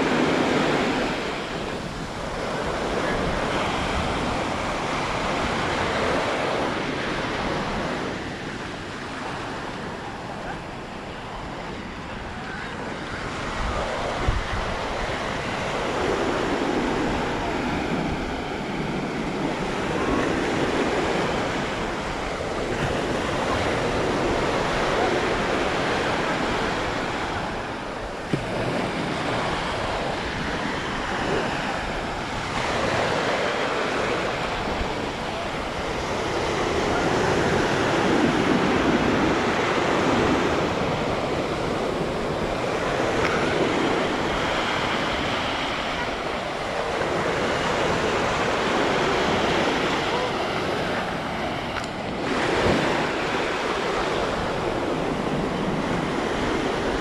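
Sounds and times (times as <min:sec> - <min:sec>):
sea surf breaking on beach: 0:00.0 - 0:57.0.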